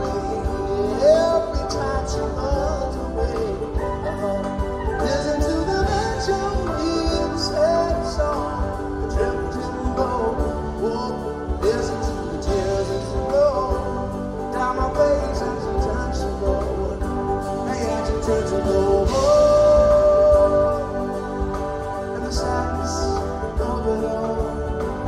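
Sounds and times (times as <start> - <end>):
live band playing instrumental: 0.0 - 25.0.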